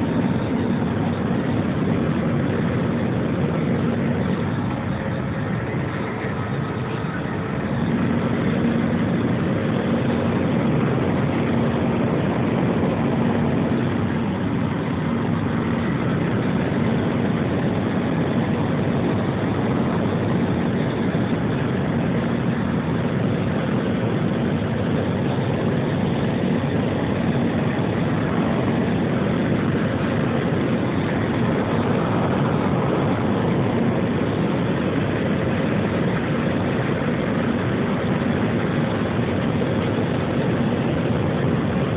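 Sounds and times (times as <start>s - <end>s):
jet engines inside cabin: 0.0s - 41.9s.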